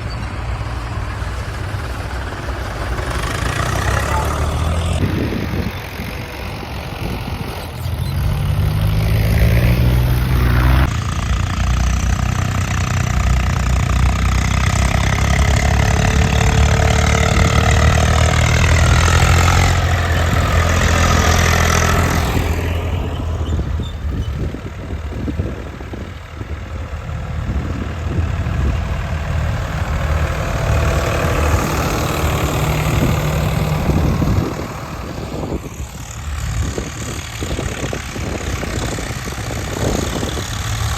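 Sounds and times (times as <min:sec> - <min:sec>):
heavy machinery diesel engine revving: 0:00.0 - 0:40.9.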